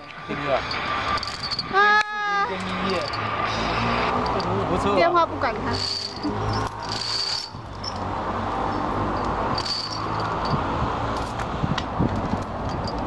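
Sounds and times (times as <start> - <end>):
chain links clinking and rattling: 0.3 - 4.6, 5.7 - 13.0.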